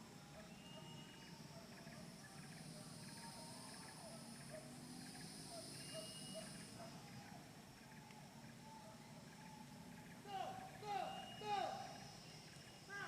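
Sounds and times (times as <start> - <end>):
insects droning: 0.0 - 13.0
faint short chirping calls: 0.3 - 13.0.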